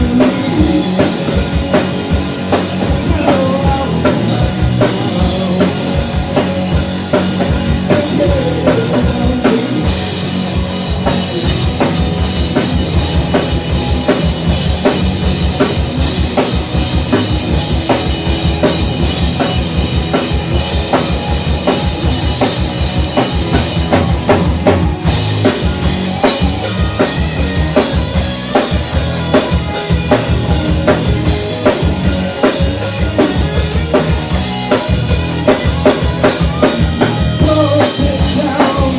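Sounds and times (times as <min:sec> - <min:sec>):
live rock band: 0:00.0 - 0:38.9.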